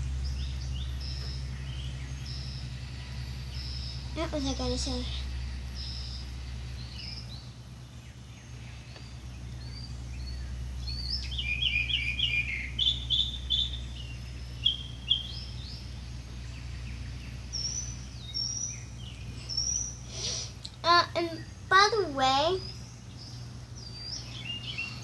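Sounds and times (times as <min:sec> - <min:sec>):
birds chirping and singing: 0:00.0 - 0:25.0
steady low hum: 0:00.0 - 0:25.0.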